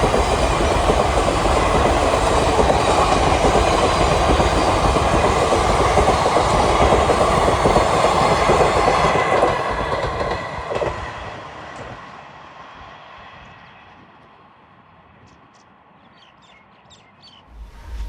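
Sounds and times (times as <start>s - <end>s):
train passing on track: 0.0s - 18.0s.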